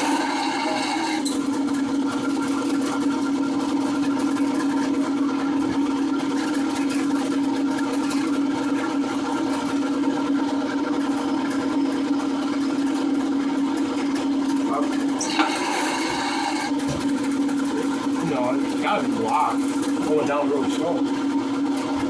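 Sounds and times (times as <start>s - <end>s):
drain-cleaning machine humming: 0.0s - 22.0s.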